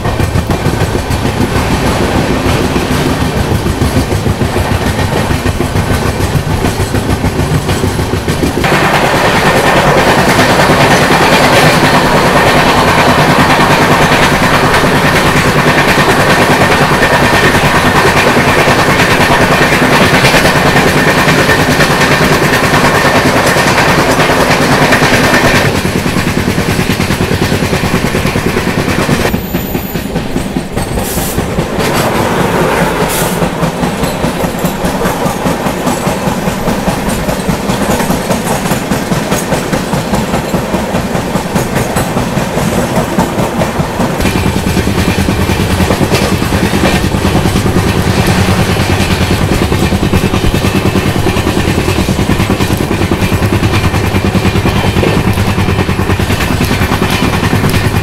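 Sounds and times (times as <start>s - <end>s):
rushing wind: 0.0s - 58.0s
train passing close: 0.0s - 58.0s
wheel-on-rail noise: 0.0s - 58.0s
wheels clacking over rail joints: 0.0s - 58.0s.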